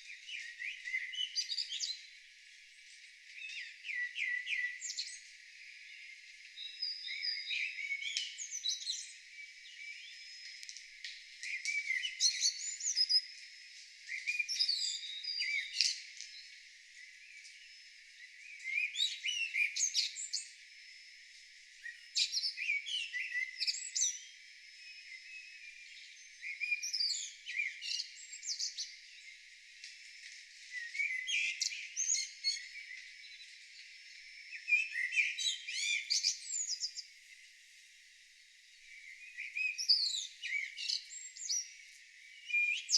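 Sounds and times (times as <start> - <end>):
faint birds chirping: 0.0 - 42.9
songbird singing: 0.0 - 42.9.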